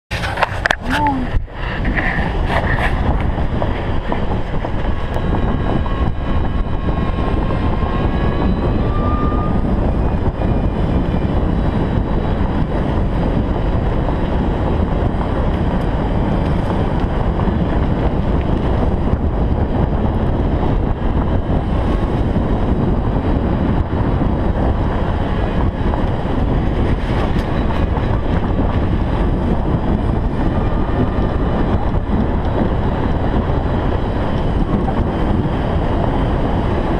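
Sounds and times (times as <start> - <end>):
golf cart running: 0.1 - 36.9
wind rumble on microphone: 0.1 - 36.9.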